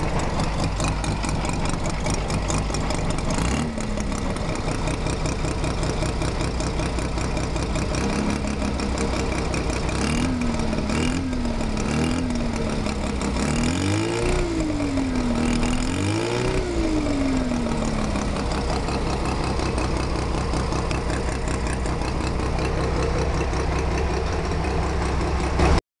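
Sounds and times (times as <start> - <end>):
clicking from engine: 0.0 - 15.8, 17.7 - 25.8
rotary engine idling and revving: 0.0 - 25.8.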